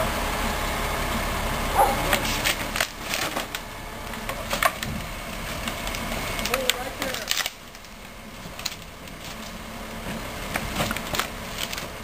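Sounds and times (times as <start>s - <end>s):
crane engine running: 0.0s - 12.0s.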